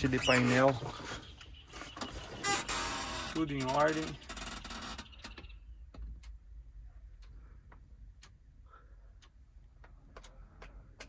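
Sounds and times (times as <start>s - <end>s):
faint regular ticking: 0.4s - 11.0s.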